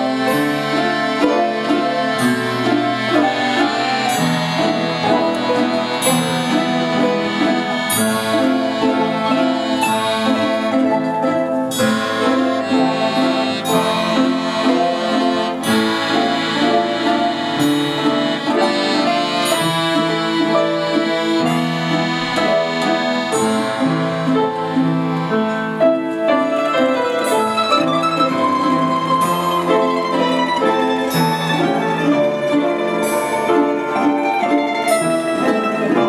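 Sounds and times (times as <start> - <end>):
orchestra playing: 0.0 - 36.0.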